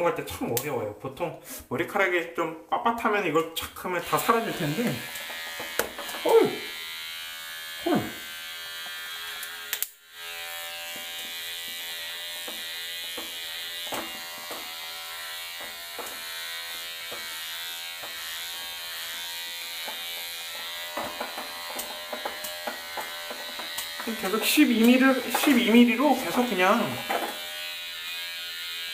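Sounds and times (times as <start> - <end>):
electric hair clipper running: 4.0 - 28.9.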